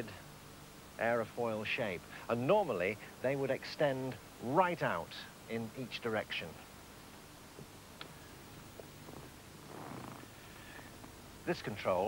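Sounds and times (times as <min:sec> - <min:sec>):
faint background hiss and hum: 0:00.0 - 0:12.0.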